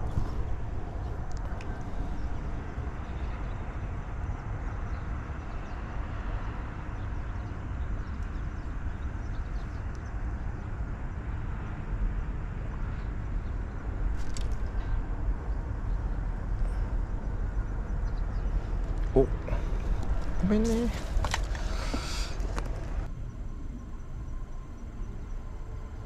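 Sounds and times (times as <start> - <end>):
low fluctuating rumble: 0.0 - 26.0.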